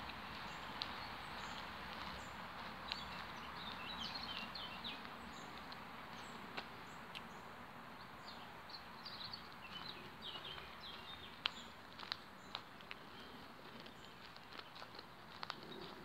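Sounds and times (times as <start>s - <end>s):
open-air hiss: 0.0s - 14.2s
small birds chirping: 0.0s - 16.0s.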